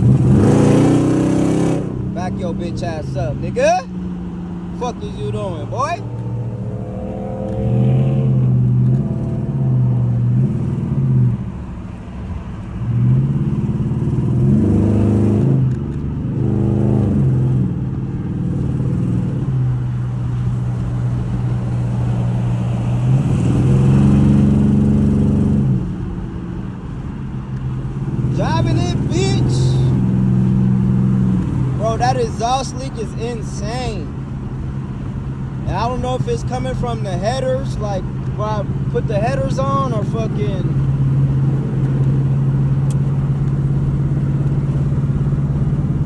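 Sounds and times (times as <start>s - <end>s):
car engine accelerating: 0.0s - 11.9s, 12.5s - 46.0s.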